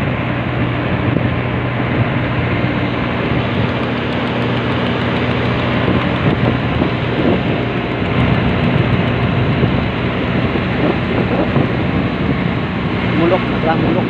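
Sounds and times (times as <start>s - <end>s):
motorboat engine droning: 0.0s - 14.0s
wind: 0.0s - 14.0s.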